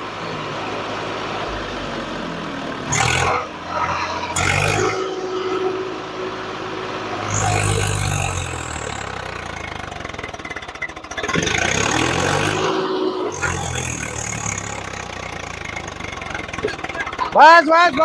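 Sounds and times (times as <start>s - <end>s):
tractor diesel engine straining: 0.0s - 18.0s.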